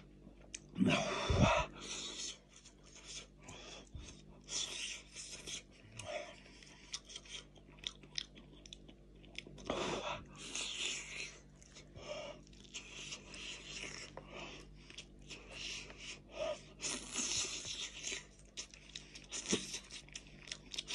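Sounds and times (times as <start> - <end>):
person chewing meat: 0.3 - 20.9.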